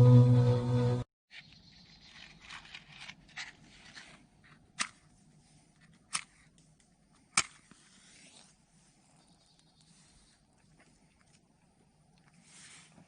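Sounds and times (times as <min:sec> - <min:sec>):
faint rustling and scraping: 0:01.9 - 0:13.0.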